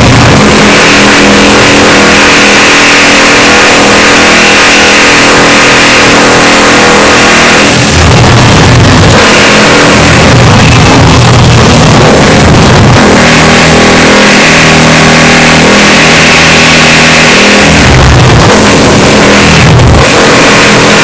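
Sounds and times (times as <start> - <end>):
construction machine drone: 0.0 - 21.0
pulsing low rumble: 0.0 - 21.0.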